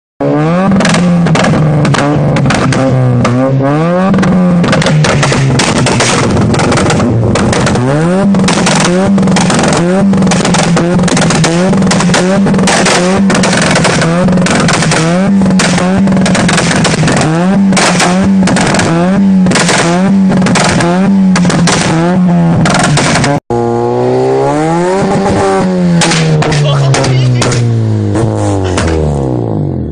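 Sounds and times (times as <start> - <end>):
car engine revving: 0.2 - 29.9
exhaust crackles: 0.2 - 29.9.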